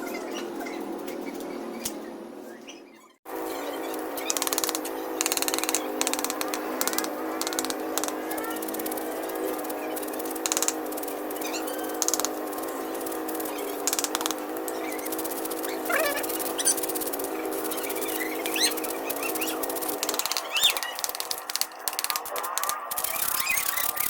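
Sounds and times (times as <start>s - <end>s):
birds chirping: 0.0s - 24.0s
sharp clicks: 3.9s - 24.0s.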